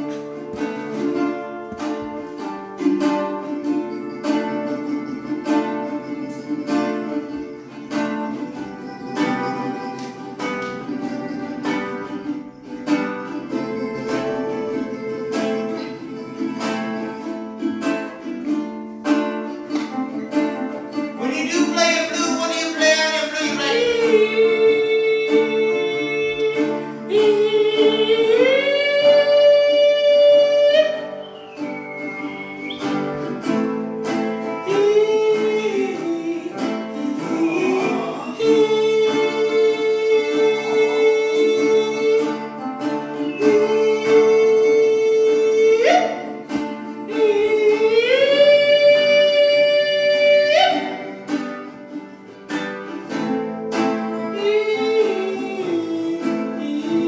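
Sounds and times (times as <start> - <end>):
guitar and ukulele strumming: 0.0 - 57.0.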